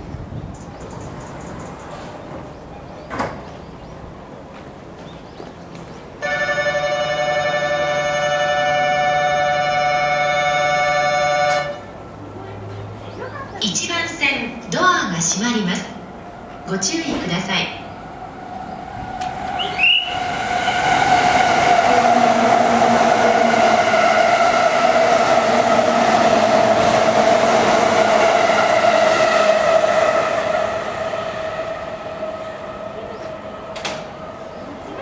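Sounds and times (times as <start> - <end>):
train cars rumbling: 0.0 - 35.0
train motors and wheels whining: 0.0 - 35.0.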